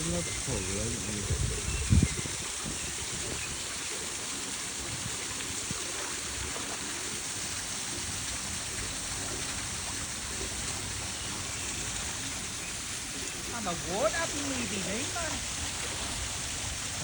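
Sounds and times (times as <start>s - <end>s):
water pouring into pool: 0.0s - 17.0s.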